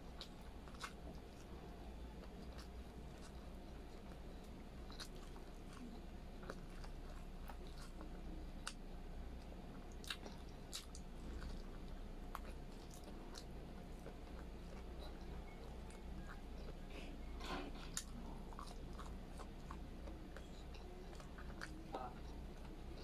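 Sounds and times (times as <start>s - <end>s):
person chewing close to microphone: 0.0s - 23.0s.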